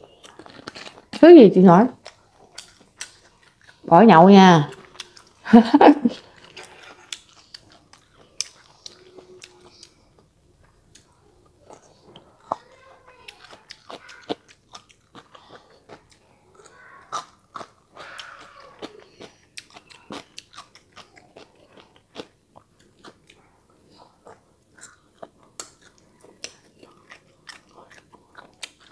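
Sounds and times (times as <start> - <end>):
close chewing and crunching: 0.0 - 1.2, 1.9 - 4.0, 4.6 - 28.9.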